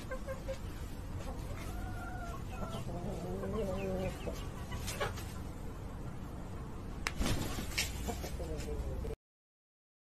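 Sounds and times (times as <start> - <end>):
chicken clucking: 0.0 - 6.8, 7.7 - 9.2.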